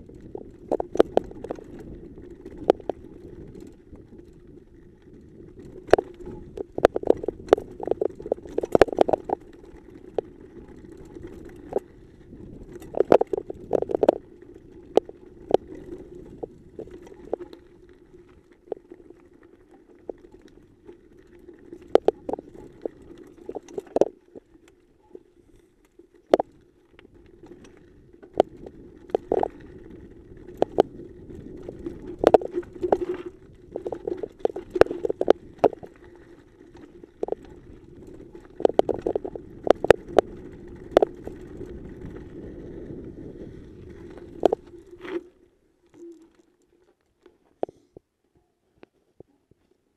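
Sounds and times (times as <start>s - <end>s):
bike knocking and rattling: 0.0s - 47.9s
bike tires rolling on dirt: 0.0s - 49.9s.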